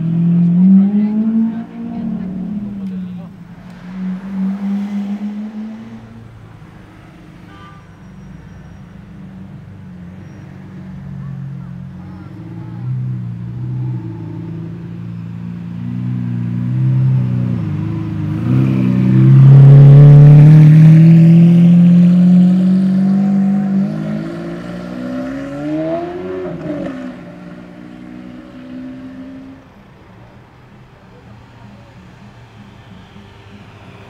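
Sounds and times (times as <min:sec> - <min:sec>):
sports car accelerating: 0:00.0 - 0:07.4, 0:09.6 - 0:30.0.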